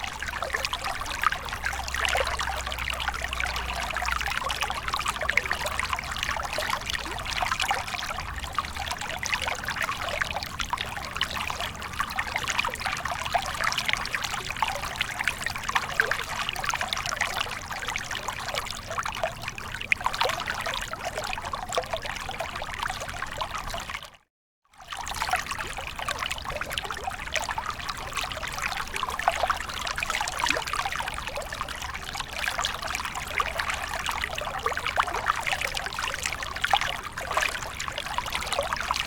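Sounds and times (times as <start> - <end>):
water flowing and trickling: 0.0 - 24.2, 24.8 - 39.0.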